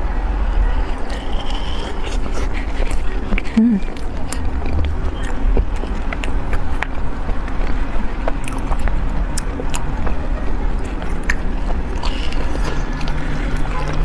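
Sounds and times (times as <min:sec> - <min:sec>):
chewing with wet mouth clicks: 0:00.8 - 0:14.0.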